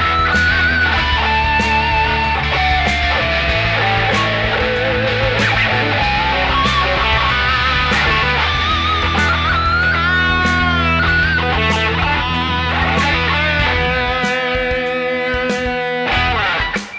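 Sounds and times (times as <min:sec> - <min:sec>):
backing track with steady beat: 0:00.0 - 0:16.9
electric guitar lead line: 0:00.0 - 0:16.9.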